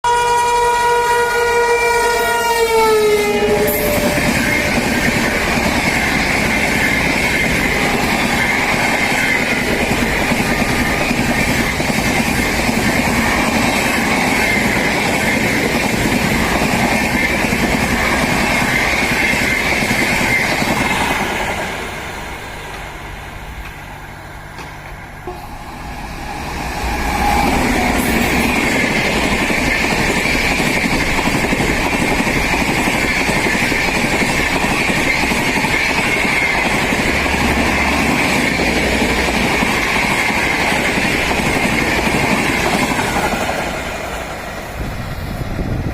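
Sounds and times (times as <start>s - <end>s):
express train passing at speed: 0.0s - 45.9s.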